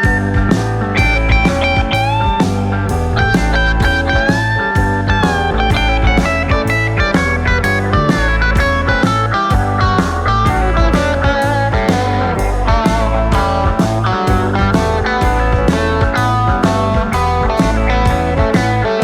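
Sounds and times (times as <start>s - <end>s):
guitar instrumental over a beat: 0.0s - 19.0s.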